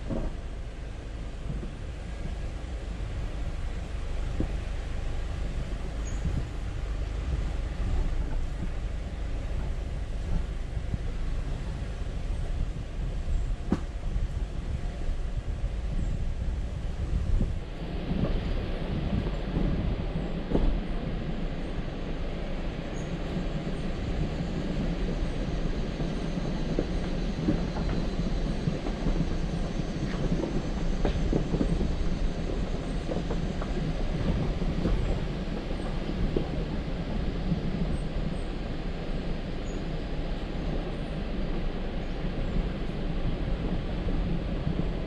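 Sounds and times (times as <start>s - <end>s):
engine and tyres rumbling: 0.0s - 45.0s.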